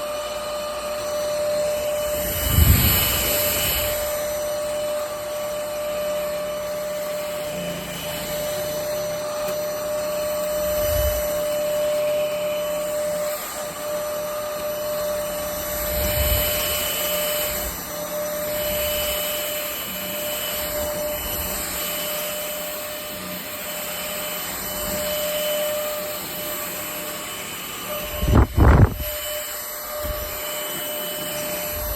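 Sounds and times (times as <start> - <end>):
stick vacuum running: 0.0 - 31.9.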